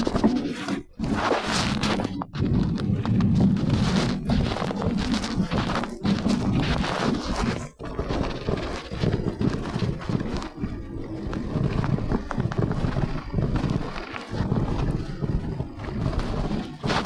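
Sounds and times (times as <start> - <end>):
bike tyre rumble on dirt: 0.0 - 17.0
wind buffeting microphone: 1.6 - 17.0.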